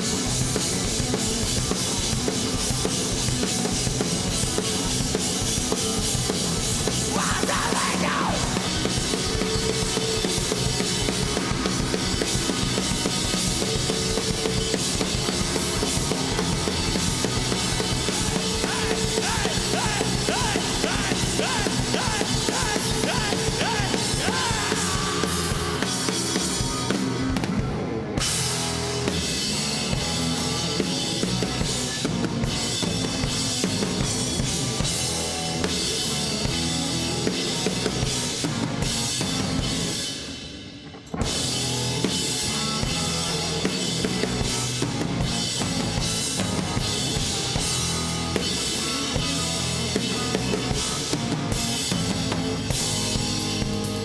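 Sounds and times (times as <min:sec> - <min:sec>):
bass guitar: 0:00.0 - 0:54.0
distorted electric guitars: 0:00.0 - 0:54.0
drum kit: 0:00.0 - 0:54.0.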